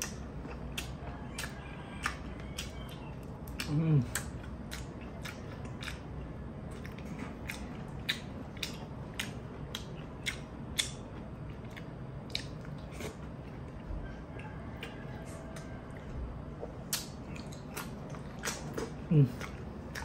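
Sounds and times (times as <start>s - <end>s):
person chewing and smacking: 0.0s - 20.0s.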